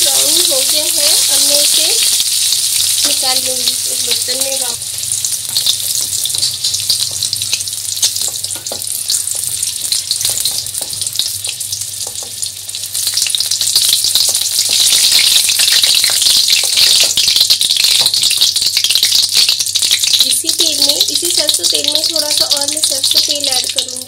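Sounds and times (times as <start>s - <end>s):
oil sizzling in a pan: 0.0s - 24.0s.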